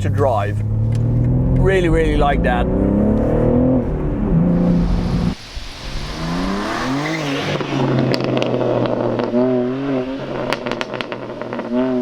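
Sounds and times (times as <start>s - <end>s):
car engine revving: 0.0s - 12.0s
exhaust crackles and pops: 0.0s - 12.0s.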